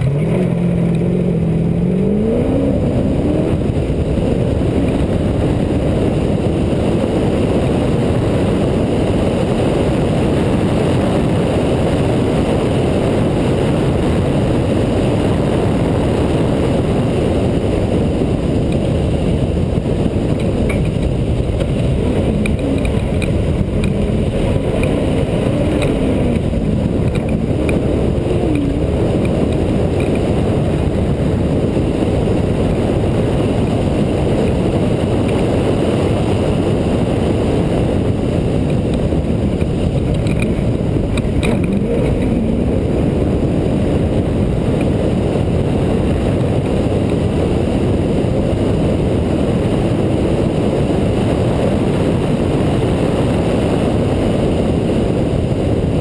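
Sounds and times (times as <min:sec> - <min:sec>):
race truck engine rumble: 0:00.0 - 0:56.0.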